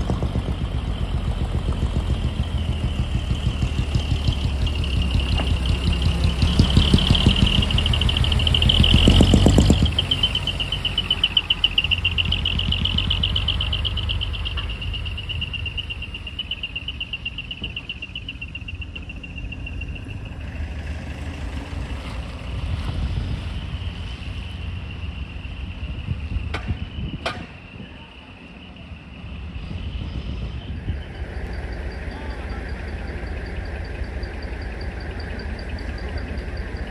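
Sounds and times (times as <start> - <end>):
truck engine rumbling: 0.0 - 36.9.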